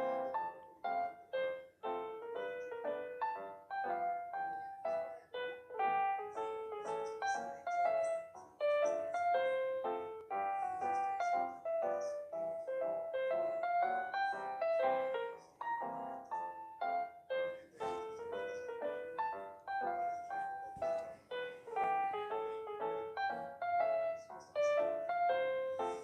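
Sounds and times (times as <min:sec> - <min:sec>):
quick piano melody: 0:00.0 - 0:26.0.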